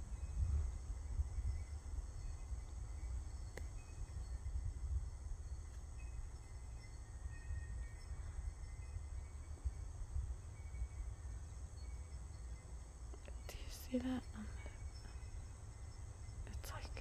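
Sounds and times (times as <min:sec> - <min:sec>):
low uneven rumble: 0:00.0 - 0:17.0.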